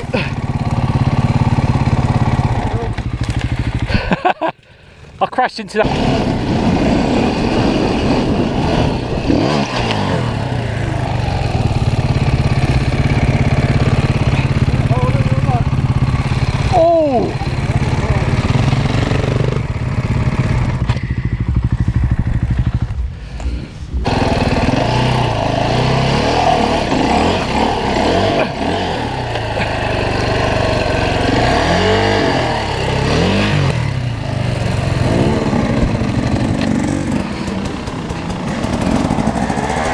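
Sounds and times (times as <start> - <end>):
dirt bike engine revving: 0.0 - 4.4, 5.8 - 39.9.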